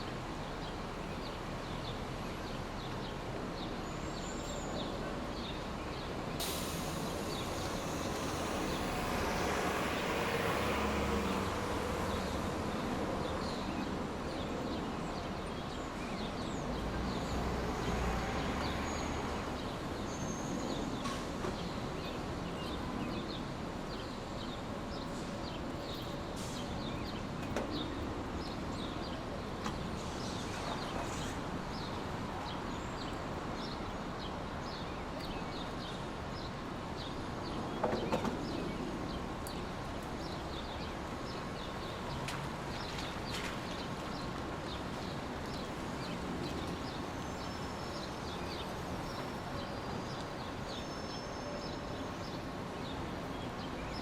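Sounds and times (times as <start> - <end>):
rustle: 3.7 - 54.0.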